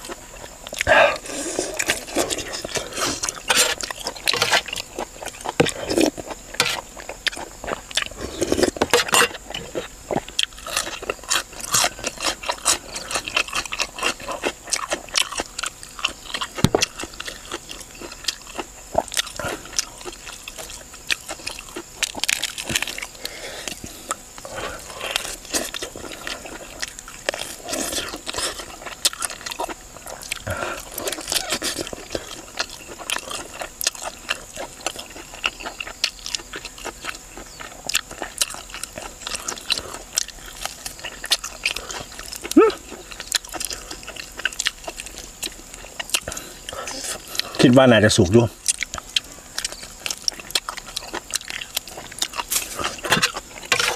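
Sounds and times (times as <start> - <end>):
person chewing meat off bone: 0.0 - 47.7, 48.4 - 53.9.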